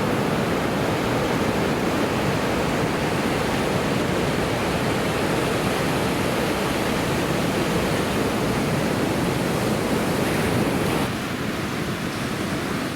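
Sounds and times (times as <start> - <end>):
ocean surf breaking on beach: 0.0 - 12.9.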